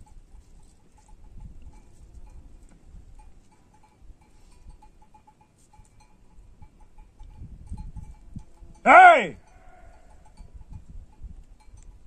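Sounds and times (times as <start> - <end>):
sheep bells clinking: 0.0 - 12.0.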